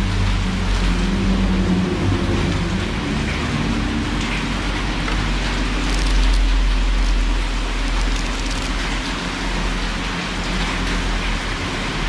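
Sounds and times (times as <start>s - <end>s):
rushing background noise with hum: 0.0s - 12.0s.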